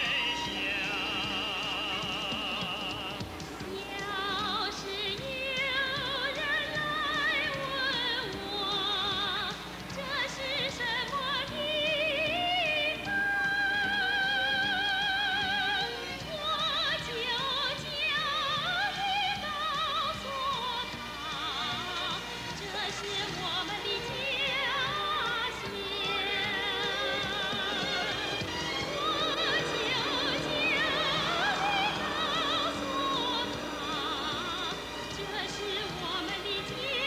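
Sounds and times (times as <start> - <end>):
music: 0.0 - 37.0
person singing with wide vibrato: 0.0 - 37.0.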